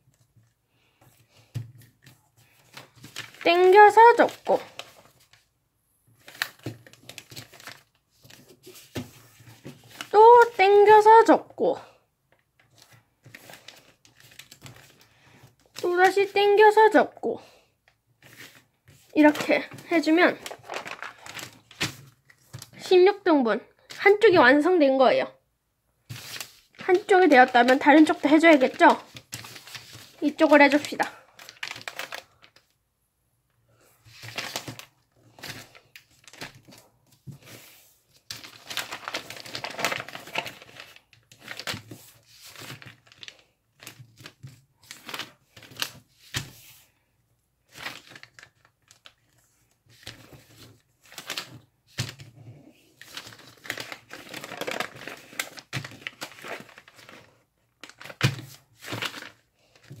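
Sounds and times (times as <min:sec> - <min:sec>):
paper rustling and crinkling: 0:00.1 - 0:05.5, 0:06.1 - 0:11.0, 0:12.6 - 0:16.7, 0:18.2 - 0:22.9, 0:26.0 - 0:32.7, 0:33.9 - 0:47.0, 0:47.6 - 1:00.0.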